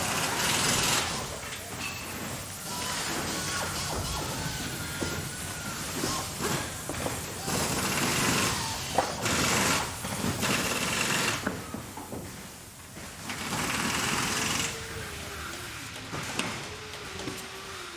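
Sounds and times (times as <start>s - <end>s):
factory machinery running: 0.0s - 17.9s.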